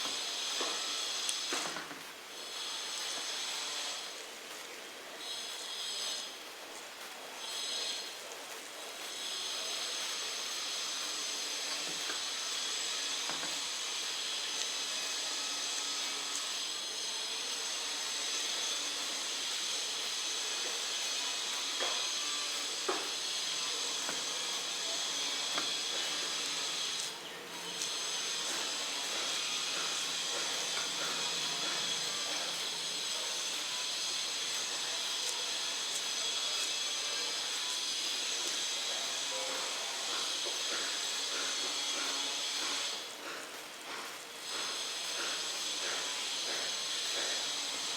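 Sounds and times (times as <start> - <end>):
food deep-frying in hot oil: 0.0 - 47.9.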